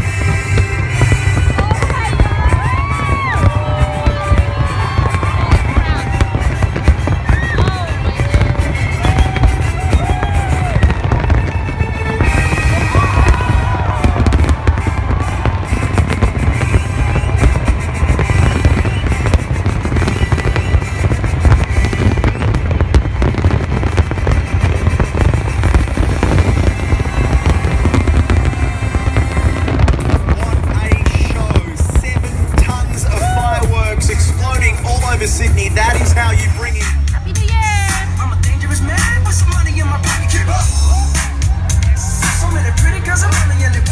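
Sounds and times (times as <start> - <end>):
fireworks booming: 0.0 - 43.9
fireworks crackling: 0.0 - 43.9.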